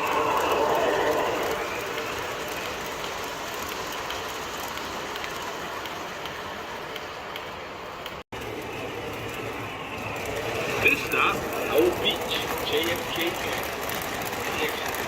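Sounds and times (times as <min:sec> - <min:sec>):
model train rumbling: 0:00.0 - 0:15.0.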